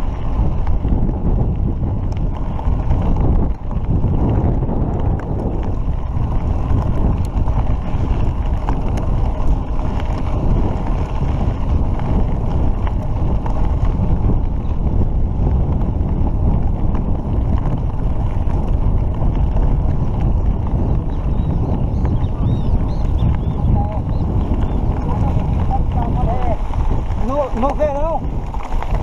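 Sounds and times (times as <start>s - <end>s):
tyres rolling on gravel: 0.0s - 29.0s
wind buffeting microphone: 0.0s - 29.0s.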